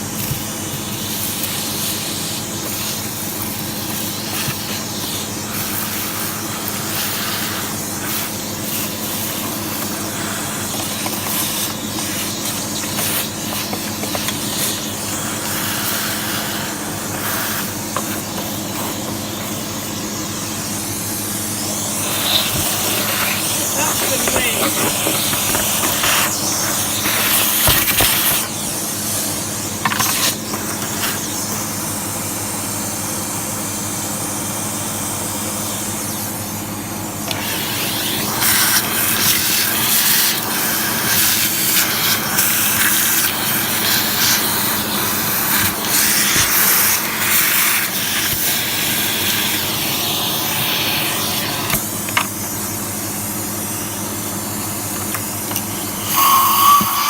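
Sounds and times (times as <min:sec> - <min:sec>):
upright vacuum cleaner sucking dirt: 0:00.0 - 0:57.0.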